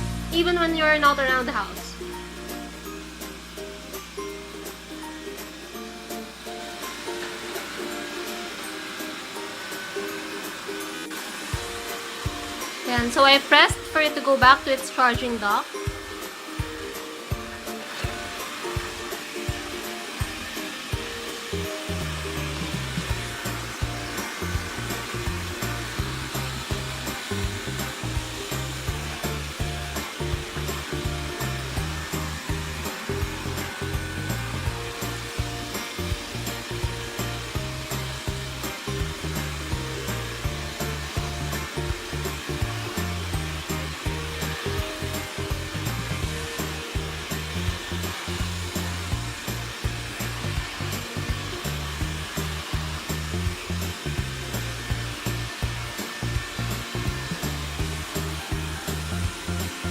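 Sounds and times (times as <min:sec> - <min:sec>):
music with beat and bass: 0:00.0 - 0:05.8, 0:15.2 - 0:59.9
robot vacuum cleaner whirring: 0:00.0 - 0:59.9.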